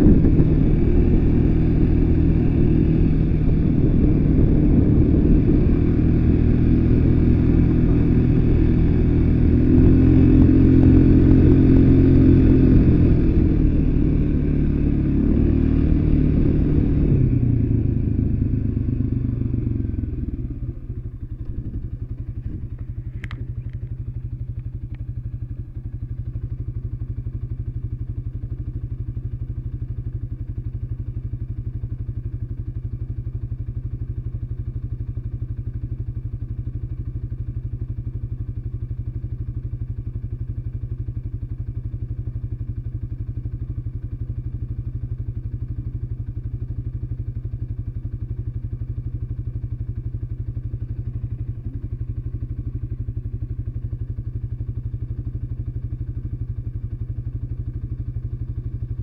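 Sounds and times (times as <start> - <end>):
atv engine idling: 0.0 - 59.0.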